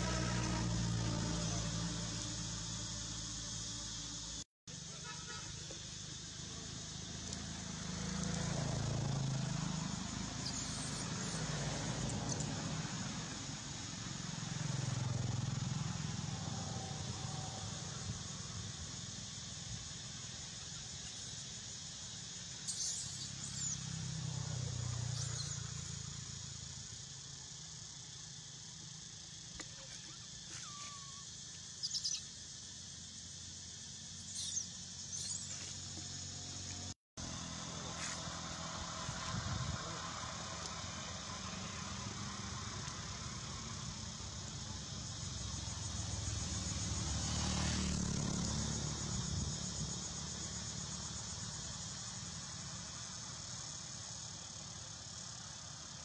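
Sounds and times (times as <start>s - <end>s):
low rumbles of passing traffic: 0.0s - 29.4s, 30.3s - 56.0s
high insect drone: 0.0s - 56.0s.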